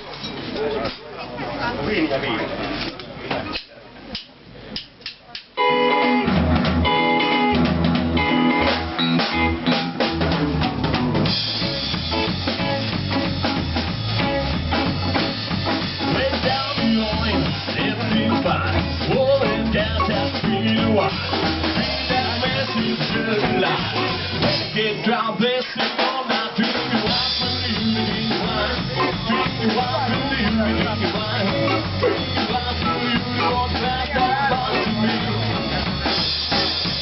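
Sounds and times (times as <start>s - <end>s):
bass guitar: 0.0s - 37.0s
drum kit: 2.6s - 37.0s
guitar: 5.0s - 37.0s.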